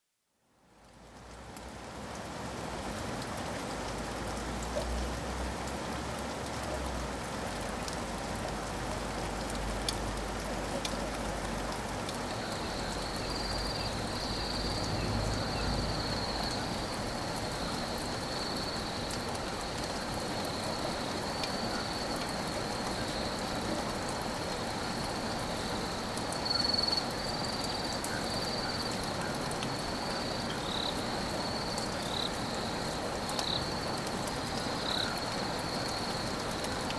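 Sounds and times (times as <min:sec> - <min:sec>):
steady rain falling: 0:00.6 - 0:36.9.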